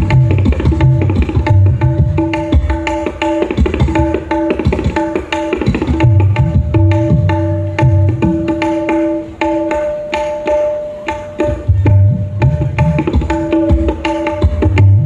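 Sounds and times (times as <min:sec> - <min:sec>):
hand drums played fast: 0:00.0 - 0:15.0.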